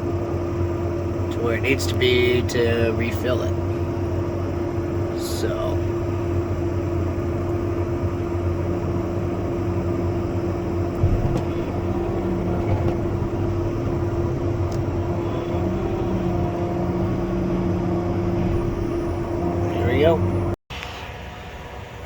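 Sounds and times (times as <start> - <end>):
tractor engine under load: 0.0 - 20.6.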